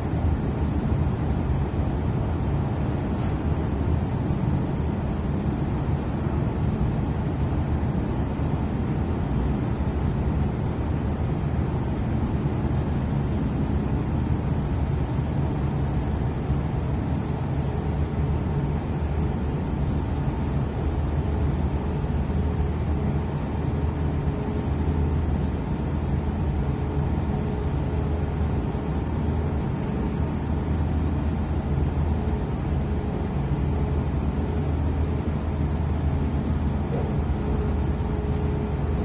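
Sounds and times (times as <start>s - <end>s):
ship engines droning: 0.0s - 39.0s.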